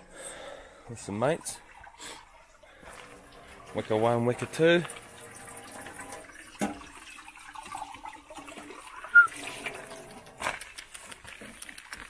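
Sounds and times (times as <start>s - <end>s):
water running: 0.0s - 12.0s.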